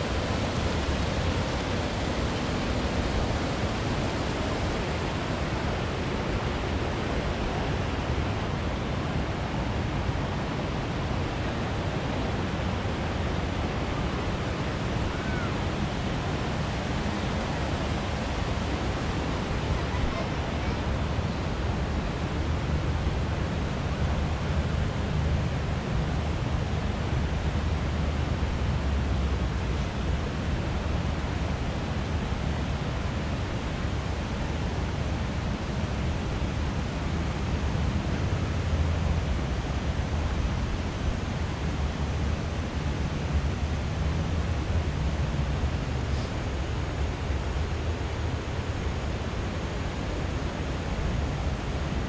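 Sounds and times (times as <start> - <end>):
rushing whitewater roar: 0.0 - 52.0.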